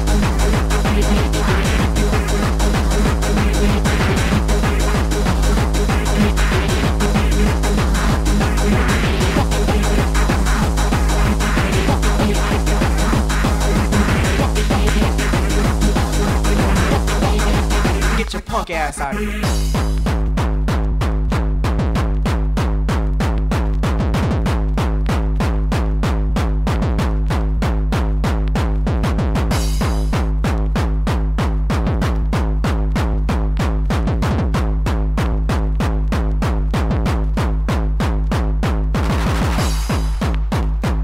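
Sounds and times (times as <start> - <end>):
deep bass: 0.0 - 41.0
fast drum machine kicks: 0.0 - 41.0.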